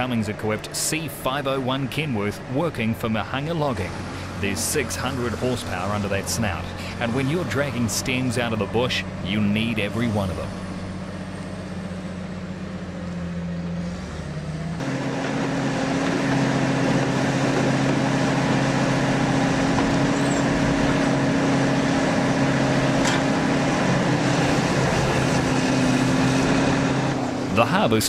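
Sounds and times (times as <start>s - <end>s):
diesel truck engine droning: 0.0s - 28.0s.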